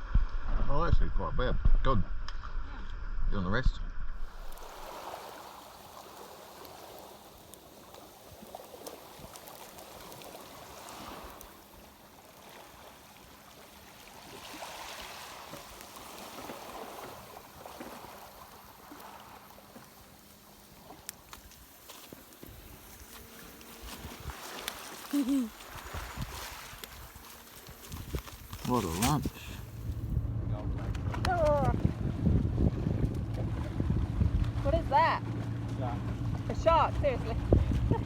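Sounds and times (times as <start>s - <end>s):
water lapping against boat hull: 4.4s - 38.0s.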